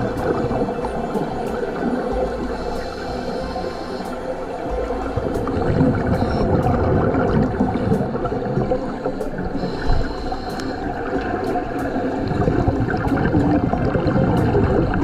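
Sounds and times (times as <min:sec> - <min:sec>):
underwater bubbling and gurgling: 0:00.0 - 0:15.0.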